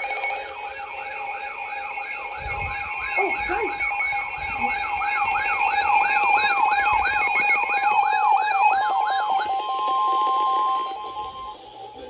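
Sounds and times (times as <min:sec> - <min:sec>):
electronic alarm tones: 0:00.0 - 0:12.0
rising siren sweep: 0:00.4 - 0:11.8.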